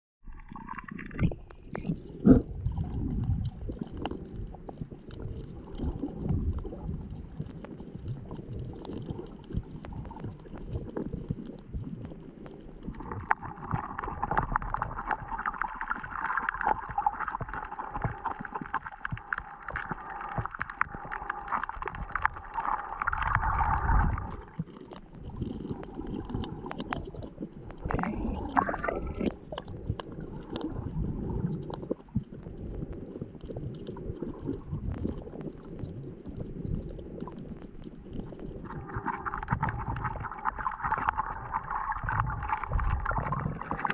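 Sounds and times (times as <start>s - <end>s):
underwater clicks and crackles: 0.2s - 43.9s
water sloshing underwater: 0.2s - 43.9s
dense crackling hiss: 0.3s - 43.9s.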